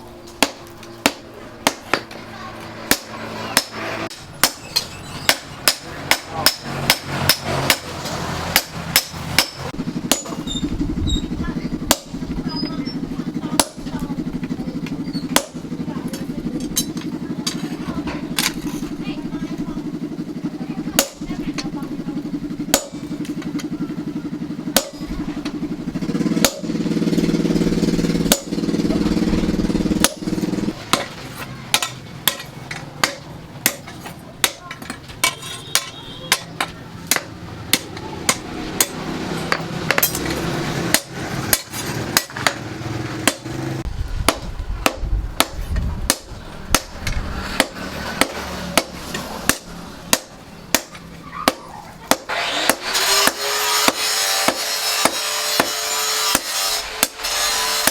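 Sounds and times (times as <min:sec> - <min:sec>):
hammer striking steel on anvil: 0:00.2 - 0:10.7, 0:11.9 - 0:14.0, 0:14.8 - 0:19.0, 0:21.0 - 0:21.7, 0:22.7 - 0:23.7, 0:24.7 - 0:25.6, 0:26.4 - 0:29.3, 0:29.9 - 0:42.6, 0:43.2 - 0:43.5, 0:44.3 - 0:57.9.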